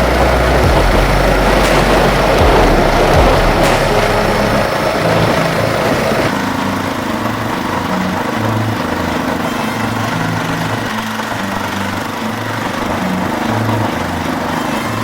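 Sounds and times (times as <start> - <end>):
walk-behind tractor engine running: 0.0 - 14.8.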